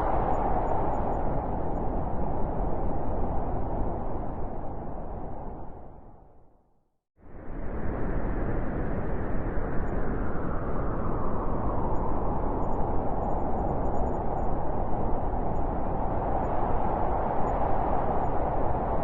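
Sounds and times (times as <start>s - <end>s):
howling blizzard wind: 0.0s - 6.5s, 7.2s - 19.0s.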